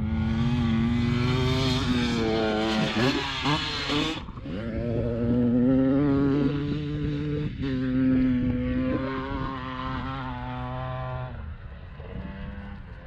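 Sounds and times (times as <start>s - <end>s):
vehicle engine under throttle: 0.0s - 11.2s.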